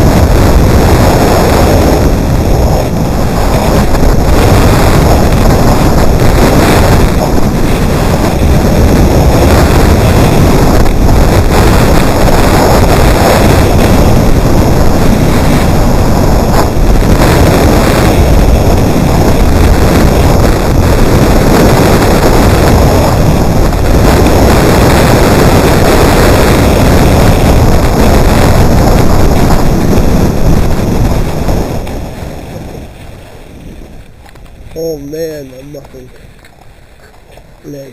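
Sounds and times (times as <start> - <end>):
skis sliding on snow: 0.0 - 37.9
wind rushing over microphone: 0.0 - 37.9.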